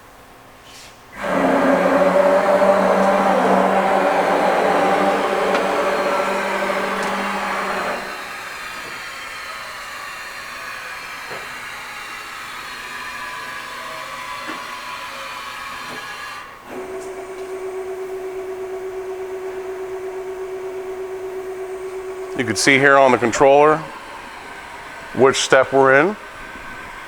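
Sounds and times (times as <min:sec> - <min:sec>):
machine motor whine: 0:01.2 - 0:25.6.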